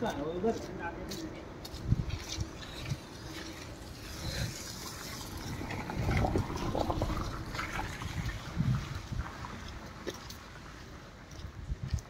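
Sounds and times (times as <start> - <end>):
footsteps squelching in mud: 0.5 - 12.0.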